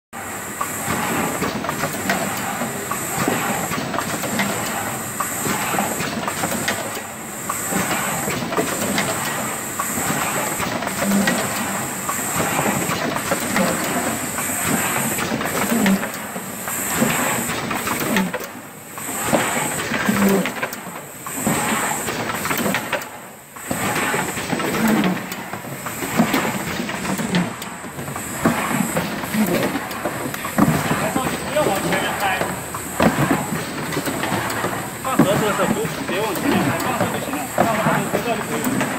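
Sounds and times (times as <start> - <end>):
steady mechanical noise: 0.2 - 38.9
machine clattering clicks and knocks: 0.6 - 38.9.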